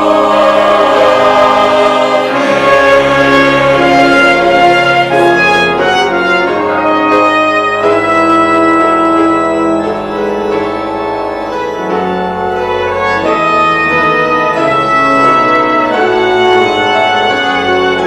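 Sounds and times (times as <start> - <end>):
organ-like keyboard chords: 0.0 - 18.0
piano: 0.0 - 18.0.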